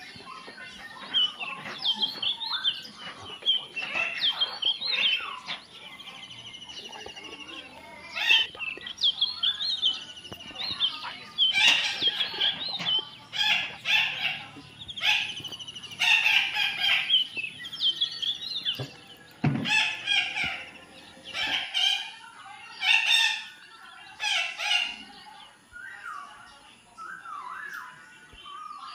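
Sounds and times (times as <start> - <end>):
parakeets screeching: 0.0 - 26.4.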